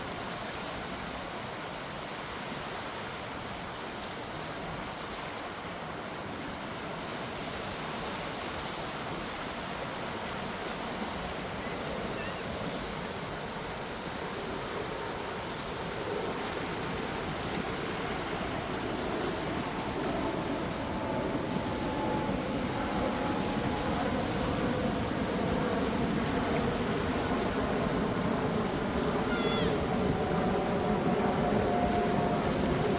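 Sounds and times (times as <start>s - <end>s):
small waves washing in: 0.0s - 32.9s.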